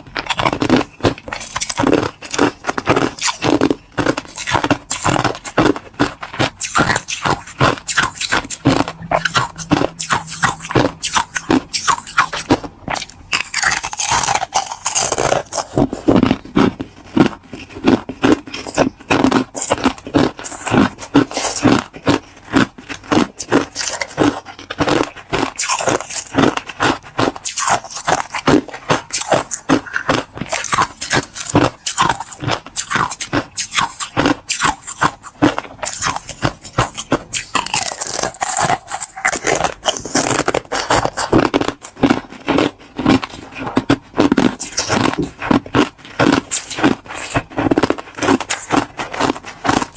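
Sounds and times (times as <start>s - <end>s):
ice crunching and chewing: 0.0s - 49.9s.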